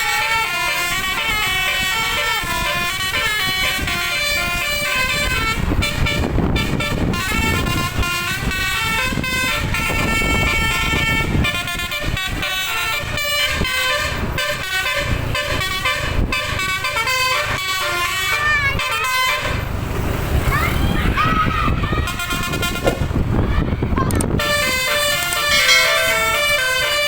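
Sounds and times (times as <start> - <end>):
bus air horn tune: 0.0 - 19.6, 21.9 - 23.0, 24.4 - 27.0
bus engine running: 0.0 - 27.0.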